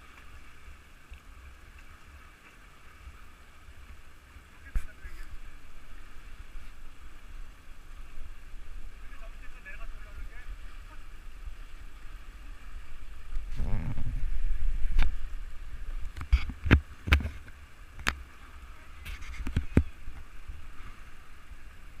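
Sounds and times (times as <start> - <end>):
river water hiss: 0.0 - 22.0.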